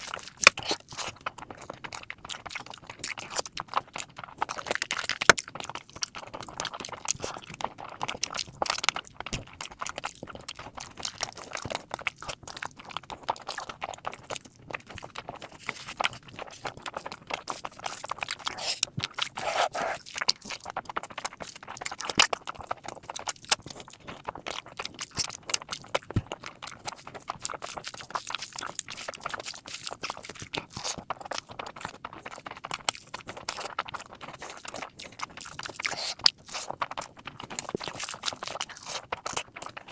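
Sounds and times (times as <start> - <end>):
person chewing and smacking: 0.0 - 39.9.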